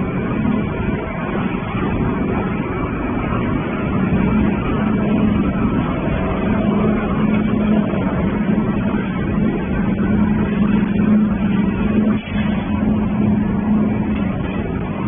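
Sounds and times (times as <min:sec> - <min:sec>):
shredder and conveyor running: 0:00.0 - 0:15.0.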